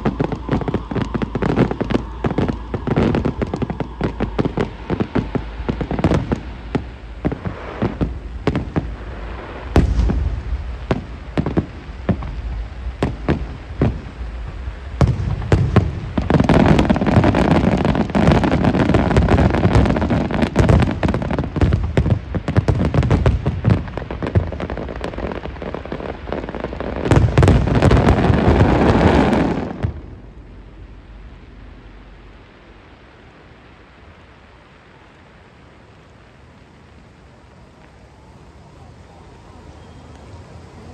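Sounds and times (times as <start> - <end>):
fireworks booming: 0.0 - 32.8.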